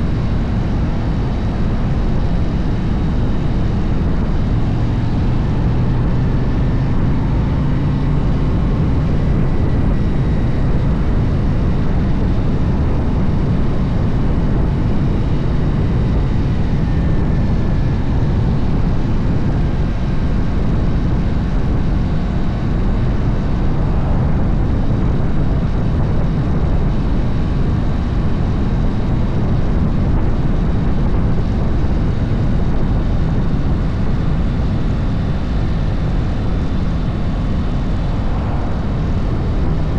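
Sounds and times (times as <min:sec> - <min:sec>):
motorcycle engine drone: 0:00.0 - 0:39.9
rushing wind noise: 0:00.0 - 0:39.9.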